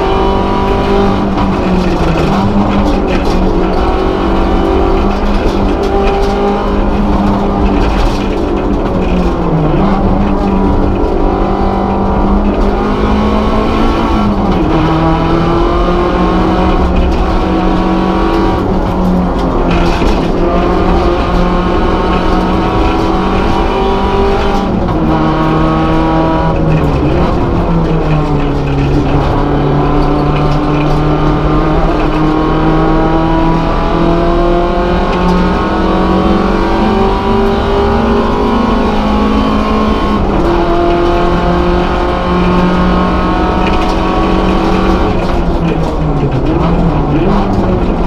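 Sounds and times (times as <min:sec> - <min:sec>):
race car engine from inside: 0:00.0 - 0:48.0.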